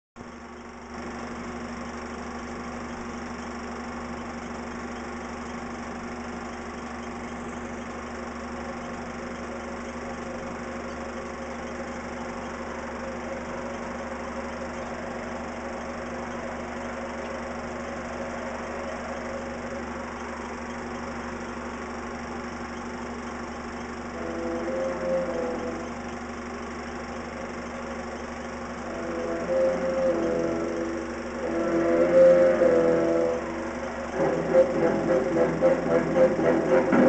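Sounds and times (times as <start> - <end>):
jet airliner engines droning: 0.3 - 37.0.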